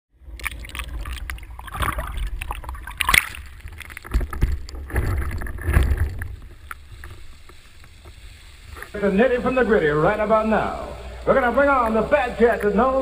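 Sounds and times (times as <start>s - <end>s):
water splashing and spray: 0.2s - 13.0s.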